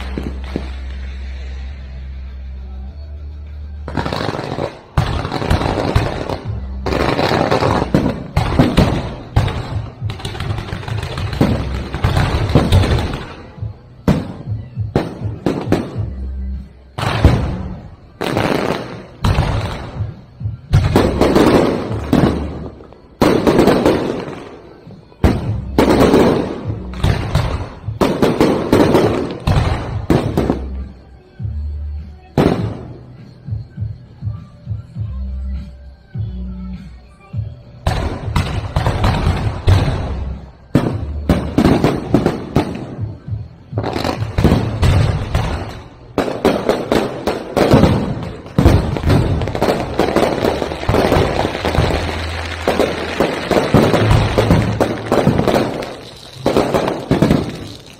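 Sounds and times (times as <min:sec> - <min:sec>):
fireworks bangs and booms: 0:00.0 - 0:01.9, 0:03.8 - 0:35.7, 0:36.8 - 0:57.9
music playing: 0:00.0 - 0:57.9.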